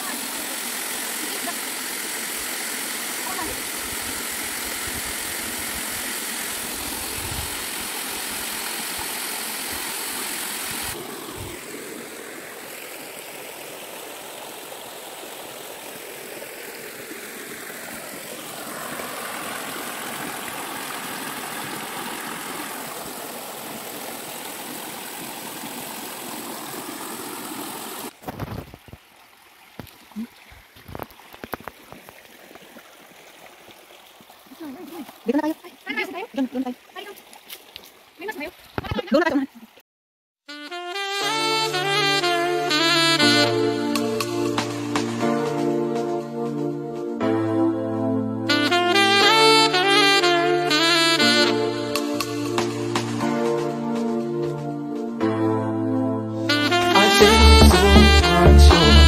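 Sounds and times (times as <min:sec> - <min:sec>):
stream water rushing: 0:00.0 - 0:39.8, 0:40.8 - 0:46.4, 0:48.5 - 0:53.8, 0:56.5 - 0:59.0.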